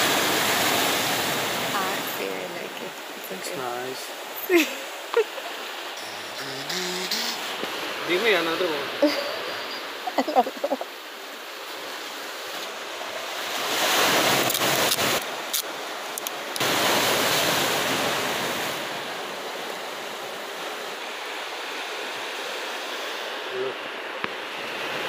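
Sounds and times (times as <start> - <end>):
waves breaking on boulder beach: 0.0 - 6.0, 7.5 - 25.0.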